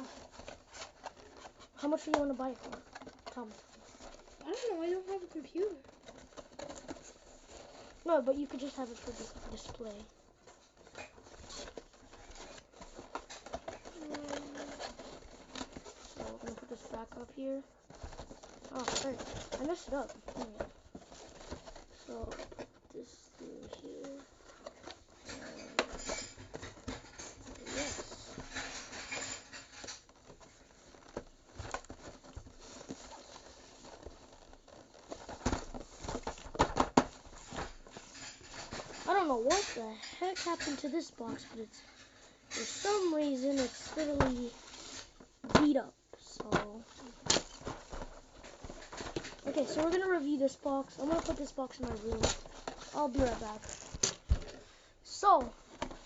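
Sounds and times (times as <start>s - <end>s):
packaging clicks and rustles: 0.0s - 56.0s.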